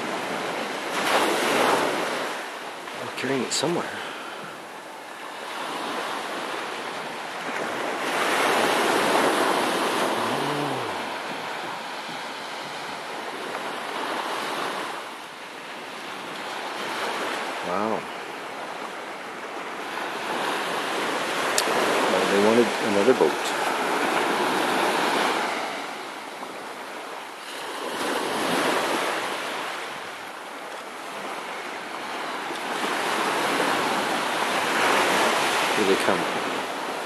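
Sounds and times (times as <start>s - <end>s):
surf breaking on a beach: 0.0s - 37.0s.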